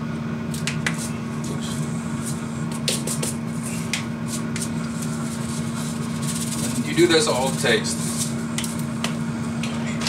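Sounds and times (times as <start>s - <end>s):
air fryer humming: 0.0s - 10.0s.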